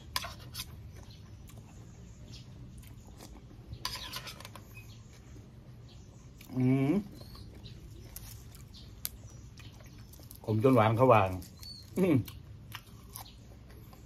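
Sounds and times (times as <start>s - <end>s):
man chewing food: 0.0s - 10.5s, 11.3s - 14.0s.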